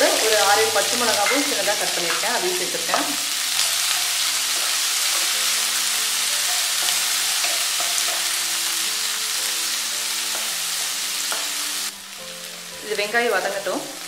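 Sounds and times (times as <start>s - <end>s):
spatula stirring: 0.0s - 11.6s
onions sizzling in hot oil: 0.0s - 14.0s.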